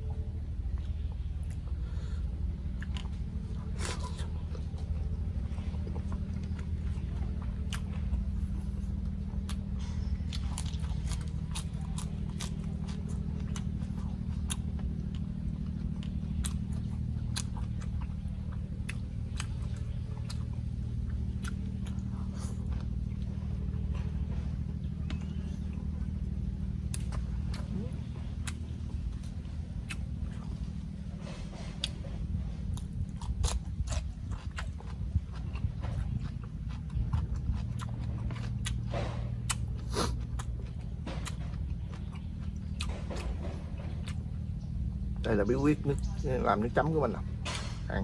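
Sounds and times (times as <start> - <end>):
steady low hum: 0.0 - 48.0
person chewing: 0.5 - 46.8.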